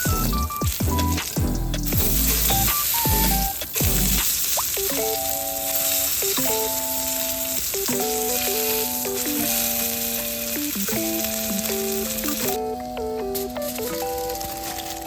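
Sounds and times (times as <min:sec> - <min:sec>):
background music of held notes: 0:00.0 - 0:15.0.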